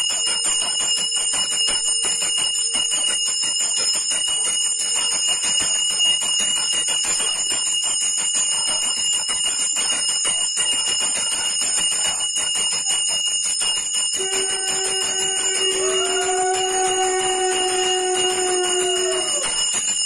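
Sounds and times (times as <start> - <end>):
hand bell ringing rapidly: 0.0 - 20.0.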